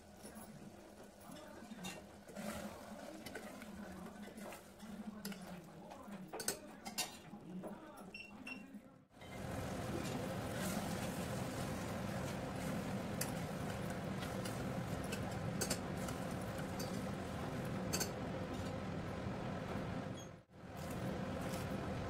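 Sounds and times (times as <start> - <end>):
gravy sizzling and bubbling: 0.0 - 7.2, 9.1 - 22.0.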